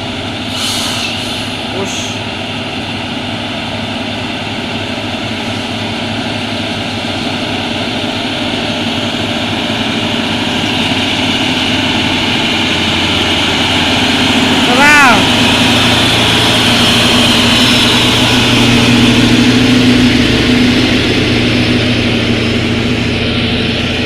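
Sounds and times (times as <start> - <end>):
diesel truck engine labouring: 0.0 - 24.0.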